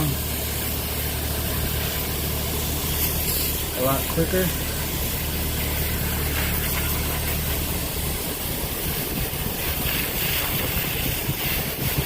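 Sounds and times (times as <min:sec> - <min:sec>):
hose spraying water: 0:00.0 - 0:12.0
low hum: 0:00.0 - 0:12.0.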